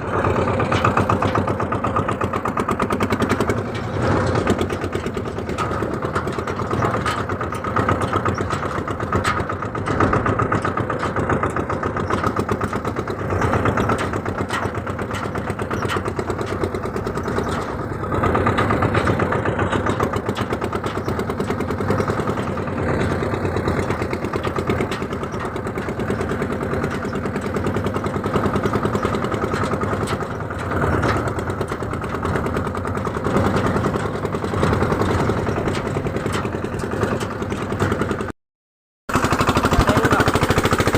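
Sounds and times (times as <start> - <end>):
tractor diesel engine running: 0.0 - 38.4, 39.1 - 40.9.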